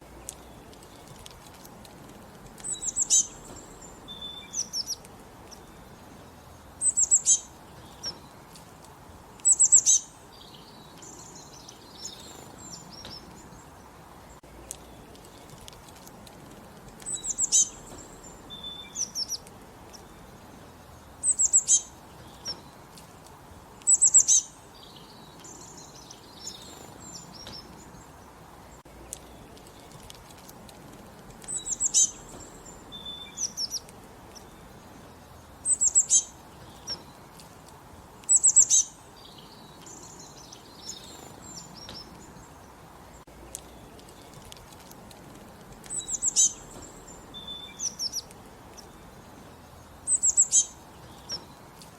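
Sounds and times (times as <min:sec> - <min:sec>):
soft bird chirps: 0:00.0 - 0:51.9
songbird singing: 0:00.0 - 0:51.9.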